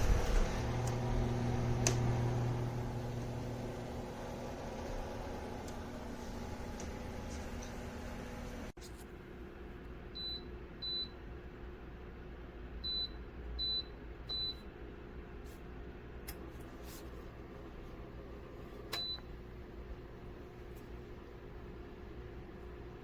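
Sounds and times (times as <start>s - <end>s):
fan heater humming: 0.0s - 23.0s.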